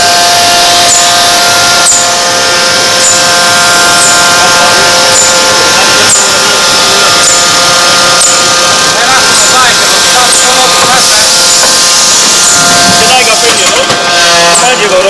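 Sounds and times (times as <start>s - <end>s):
forging machine whining: 0.0s - 15.0s.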